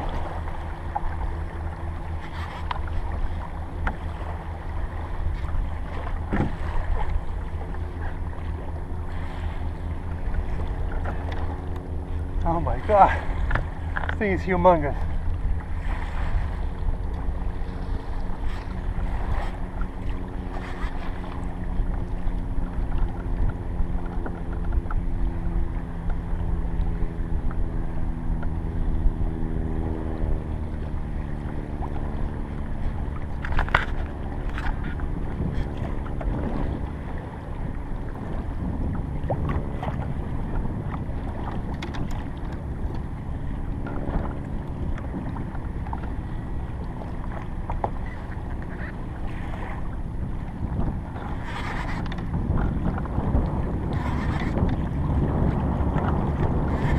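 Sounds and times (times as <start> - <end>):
low hum dropping in pitch: 0.0 - 56.9
low rumble on microphone: 0.0 - 56.9
water: 0.0 - 56.9
wind: 0.0 - 56.9.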